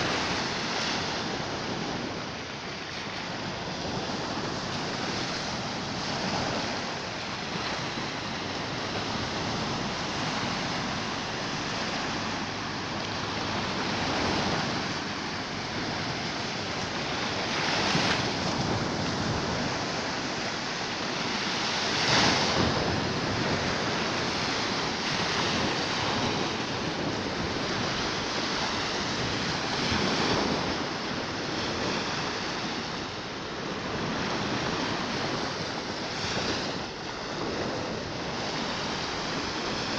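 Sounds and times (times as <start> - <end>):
waves washing up beach: 0.0 - 39.9.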